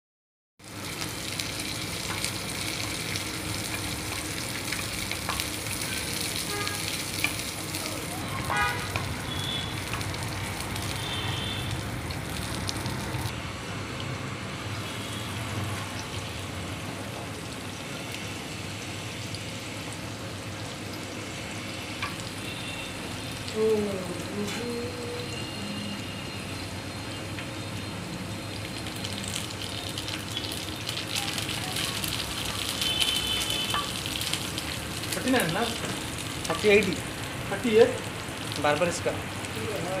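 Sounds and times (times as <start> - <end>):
food sizzling in oil: 0.6 - 40.0.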